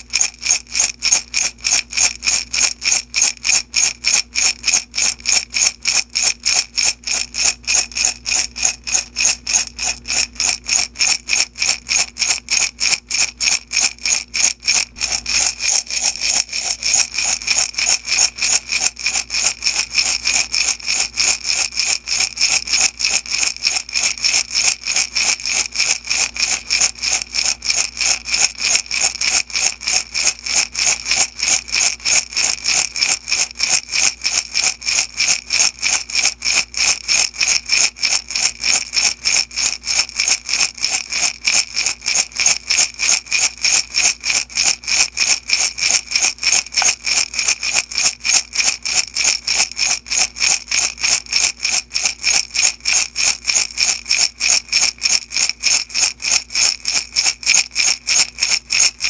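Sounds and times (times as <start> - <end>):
beads rattling in glass jar: 0.0 - 59.0.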